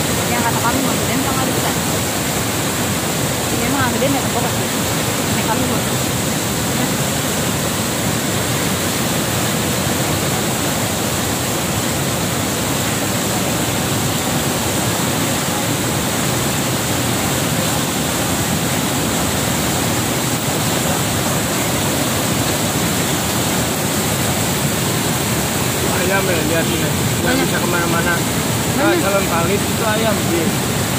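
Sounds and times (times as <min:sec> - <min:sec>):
flooded river rushing: 0:00.0 - 0:30.9.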